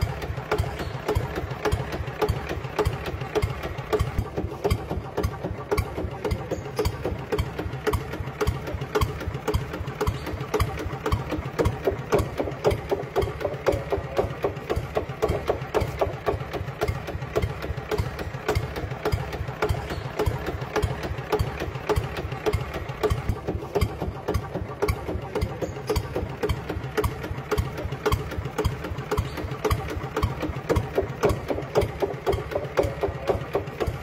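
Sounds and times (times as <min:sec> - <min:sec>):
small engine idling: 0:00.0 - 0:34.0.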